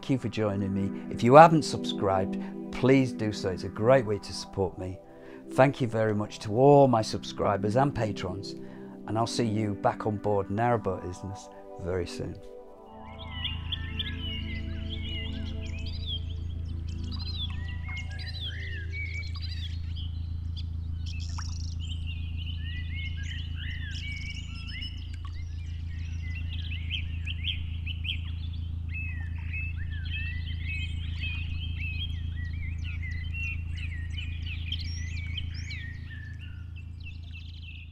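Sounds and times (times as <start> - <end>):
songbirds singing: 0.0 - 37.9
steady low hum: 0.0 - 37.9.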